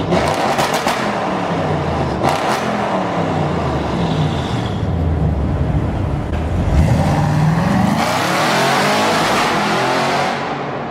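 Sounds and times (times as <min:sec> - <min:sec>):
car engine and exhaust revving: 0:00.0 - 0:10.9.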